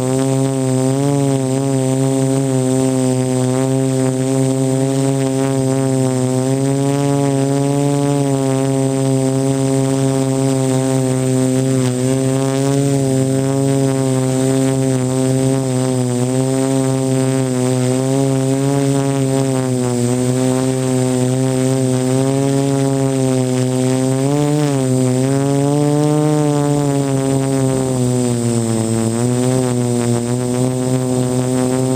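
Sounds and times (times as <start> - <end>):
quadcopter propellers buzzing: 0.0 - 31.9.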